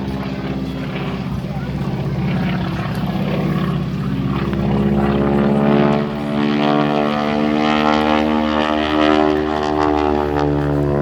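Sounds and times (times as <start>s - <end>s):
propeller aircraft engine running: 0.0s - 11.0s.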